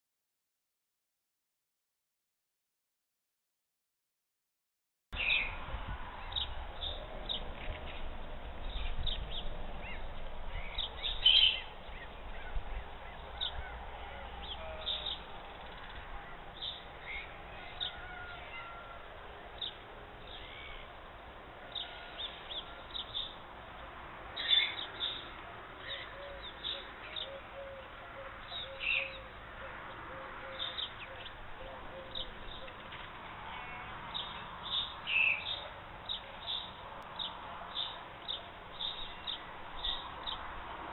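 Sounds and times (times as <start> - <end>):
birds chirping: 6.2 - 21.0, 21.7 - 40.7.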